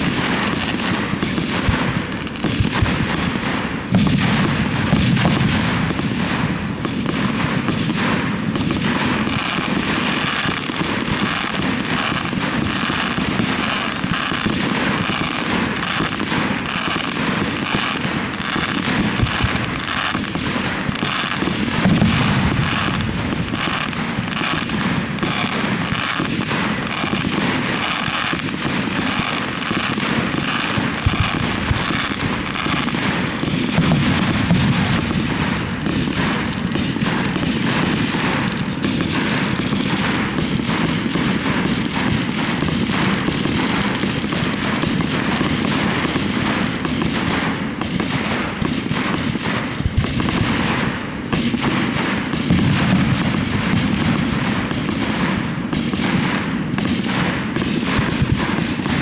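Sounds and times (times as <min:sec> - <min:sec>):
deep firework booms: 0:00.0 - 0:59.0
fireworks crackling: 0:00.0 - 0:59.0.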